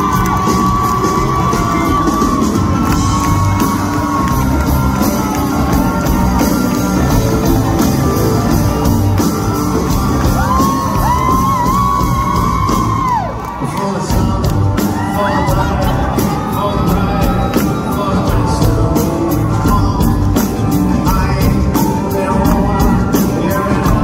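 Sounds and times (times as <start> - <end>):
fans whooping: 0.0 - 24.0
live pop rock band: 0.0 - 24.0.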